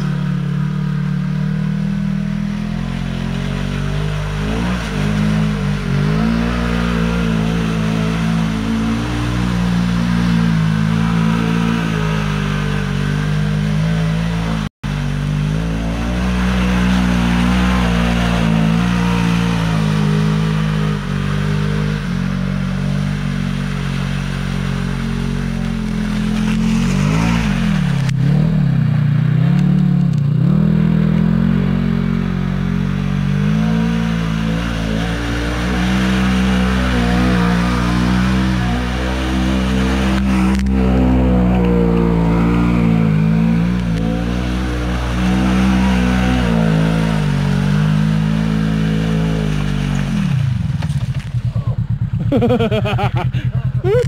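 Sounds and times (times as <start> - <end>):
utility vehicle engine revving: 0.0 - 54.0.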